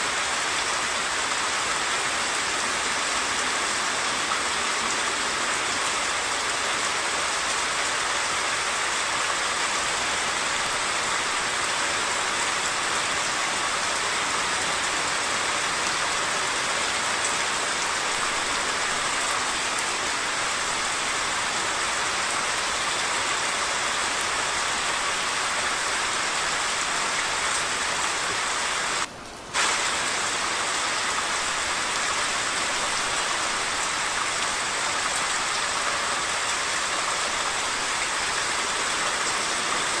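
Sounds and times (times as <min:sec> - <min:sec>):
heavy rain hiss: 0:00.0 - 0:40.0
rushing stream: 0:00.0 - 0:40.0.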